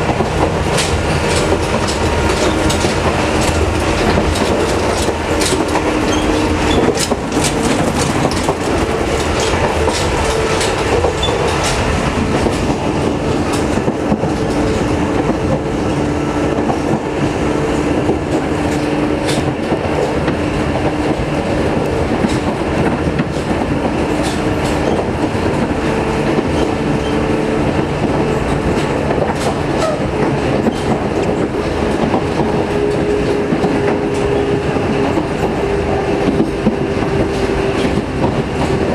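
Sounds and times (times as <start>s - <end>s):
rail joint clicks: 0.0s - 38.9s
train hum: 0.0s - 38.9s
train wheels rumbling on rail: 0.0s - 38.9s.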